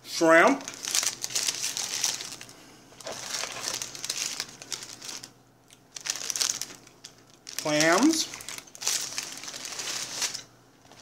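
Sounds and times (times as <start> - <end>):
paper wrappers rustling and crinkling: 0.5 - 11.0.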